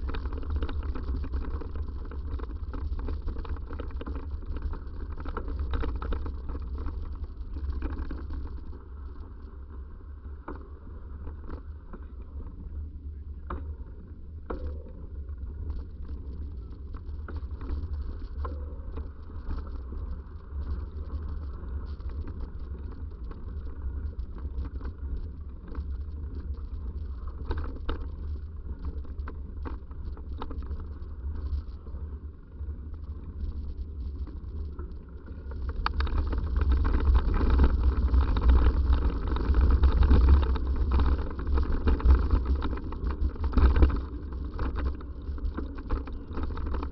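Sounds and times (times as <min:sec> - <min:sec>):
bike clicks and rattles: 0:00.0 - 0:46.9
wind rumble on microphone: 0:00.0 - 0:46.9.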